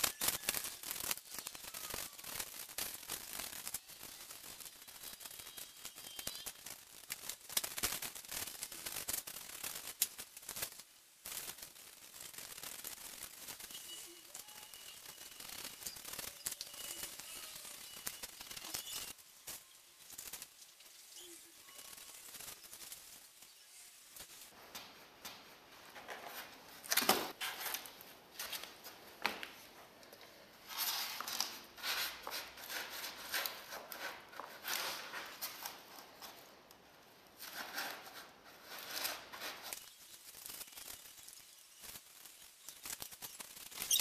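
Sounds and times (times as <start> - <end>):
foam rustling and squeaking: 0.0 - 29.7, 30.6 - 36.6, 37.3 - 44.0.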